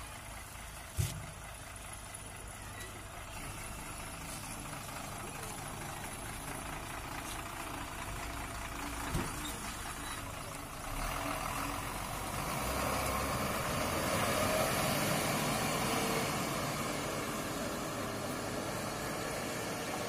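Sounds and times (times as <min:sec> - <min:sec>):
diesel lorry engine: 0:00.0 - 0:20.0.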